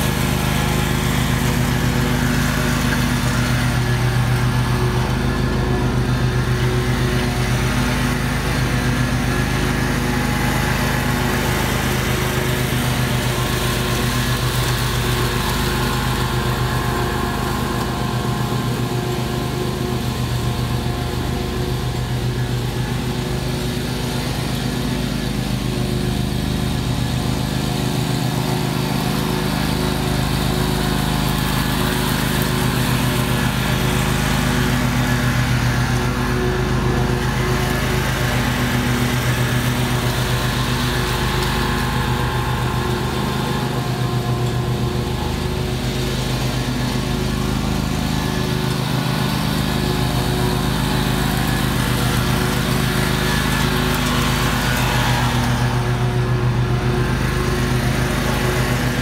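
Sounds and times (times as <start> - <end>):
lawn mower engine running: 0.0 - 59.0
mower blades mulching dry leaves: 0.0 - 59.0.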